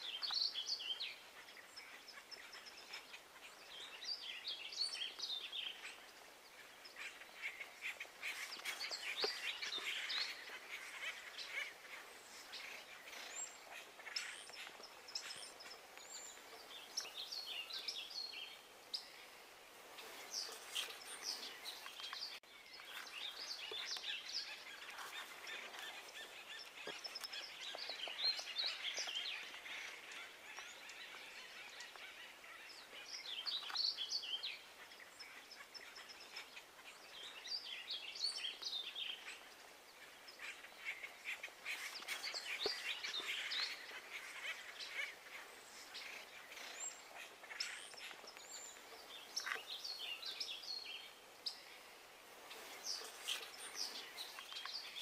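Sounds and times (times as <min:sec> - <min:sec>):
faint outdoor hiss: 0:00.0 - 0:55.0
small birds chirping: 0:00.0 - 0:55.0.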